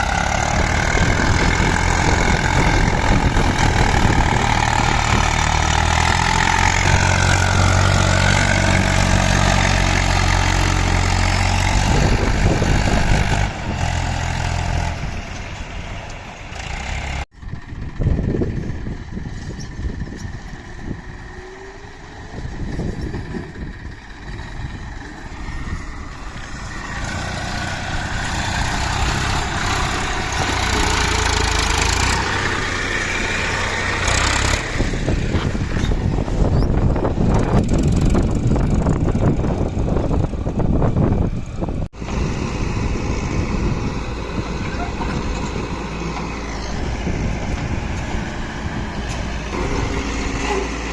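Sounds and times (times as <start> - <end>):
diesel tractor engine running: 0.0 - 50.9.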